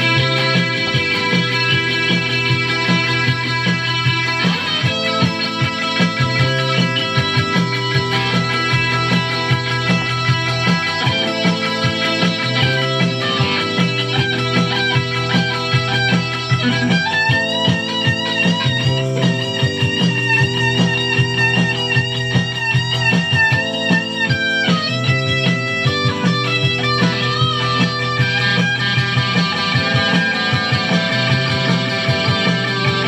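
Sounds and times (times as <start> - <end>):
electric guitar held notes: 0.0 - 33.0
steady backing beat: 0.0 - 33.0.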